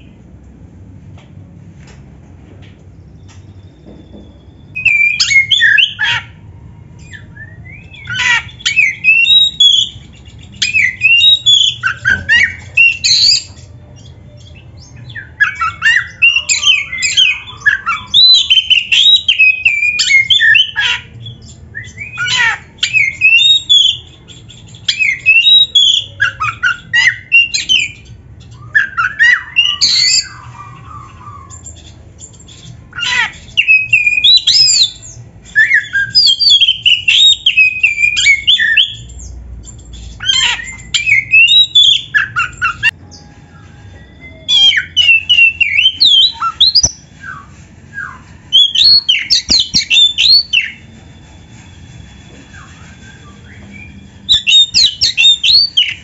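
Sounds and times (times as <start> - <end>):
bird singing whistles and harsh notes: 3.4 - 6.2, 7.0 - 51.0, 52.2 - 56.0.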